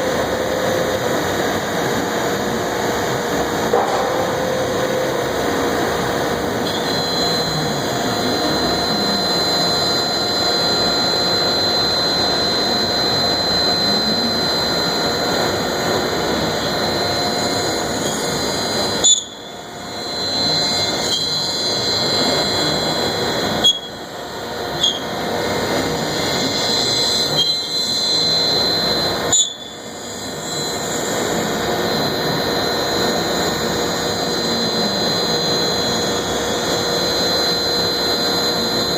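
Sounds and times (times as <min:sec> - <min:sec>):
cnc router running with whine: 0:00.0 - 0:38.9.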